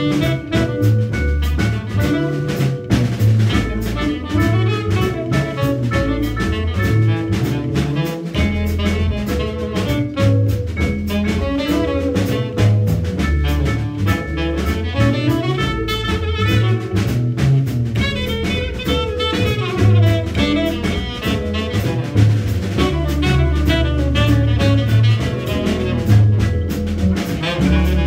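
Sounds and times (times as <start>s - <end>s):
drum kit: 0.0s - 28.0s
plucked upright bass: 0.0s - 28.0s
saxophone: 0.0s - 28.0s.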